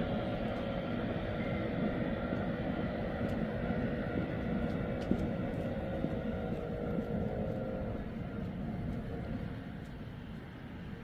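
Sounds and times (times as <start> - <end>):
distant electric train rumble: 0.0 - 11.0
faint steady tones: 0.0 - 11.0.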